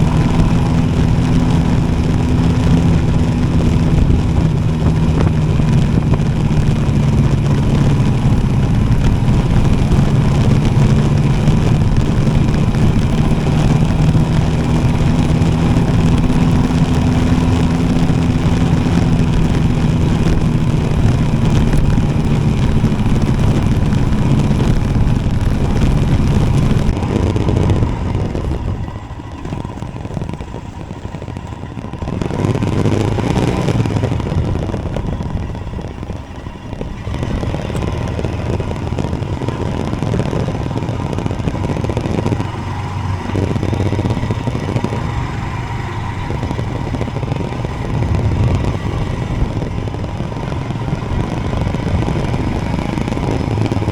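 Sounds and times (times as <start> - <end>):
motorcycle engine running: 0.0 - 53.9
wind rumble: 0.0 - 53.9.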